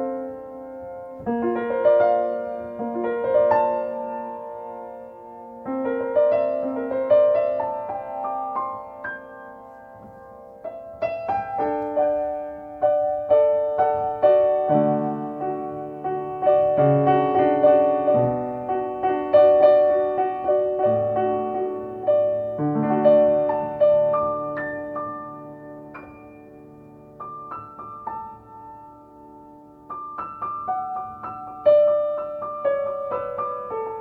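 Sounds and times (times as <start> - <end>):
slow solo piano: 0.0 - 34.0.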